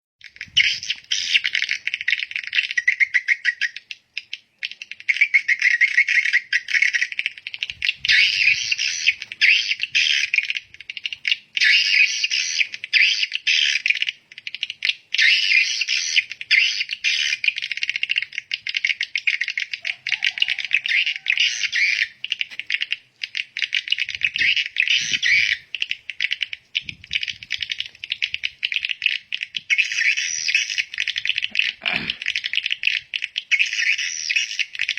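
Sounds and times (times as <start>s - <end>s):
small birds twittering: 0.2s - 34.9s.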